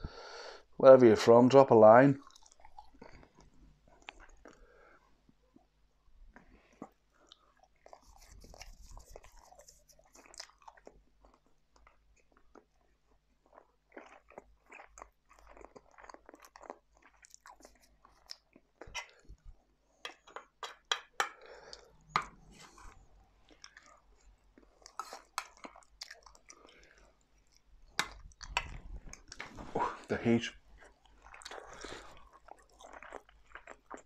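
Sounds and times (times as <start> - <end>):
person chewing food: 2.2 - 29.9, 30.6 - 34.0.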